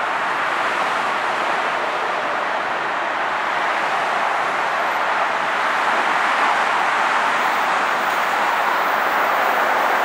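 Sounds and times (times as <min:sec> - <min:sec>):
heavy traffic rushing: 0:00.0 - 0:10.0.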